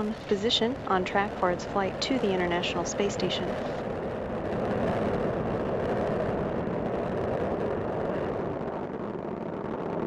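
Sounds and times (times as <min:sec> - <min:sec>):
rough rocket rumble: 0:00.0 - 0:10.0.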